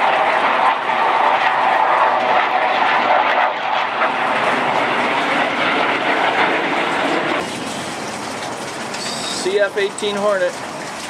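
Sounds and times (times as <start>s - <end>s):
jet fighter flying past: 0.0s - 10.0s.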